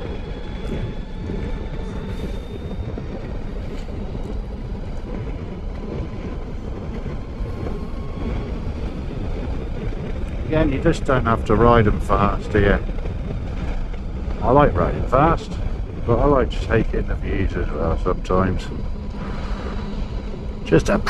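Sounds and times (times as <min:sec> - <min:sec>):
motorcycle engine running: 0:00.0 - 0:21.0
road noise: 0:00.0 - 0:21.0
wind rush: 0:00.0 - 0:21.0.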